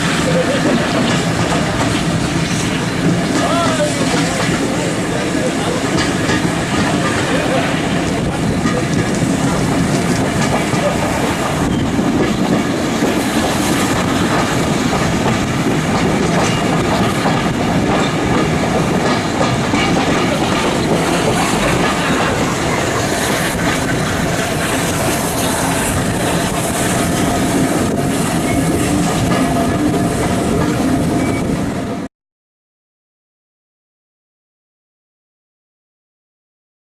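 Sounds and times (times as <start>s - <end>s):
train wheels rumbling on rail: 0.0s - 32.1s.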